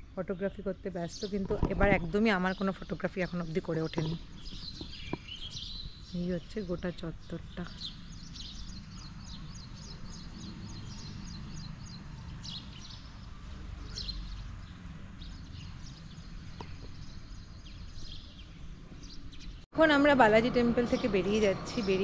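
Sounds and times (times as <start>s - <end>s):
small birds chirping: 0.0s - 19.7s.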